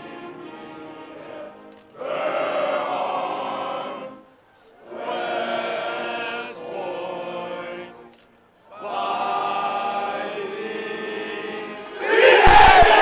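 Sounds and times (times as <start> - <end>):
choir singing long notes: 0.0 - 8.1, 8.7 - 13.0.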